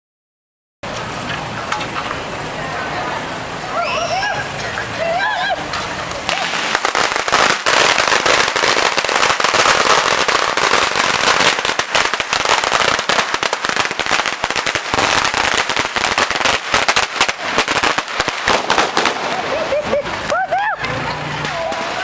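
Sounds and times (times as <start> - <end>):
firecrackers crackling: 0.8 - 22.0.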